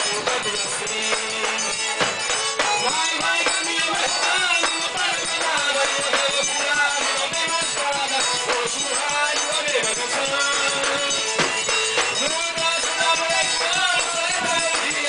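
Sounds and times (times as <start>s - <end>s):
accordion playing lively melody: 0.0s - 15.0s
triangle beat: 0.0s - 15.0s.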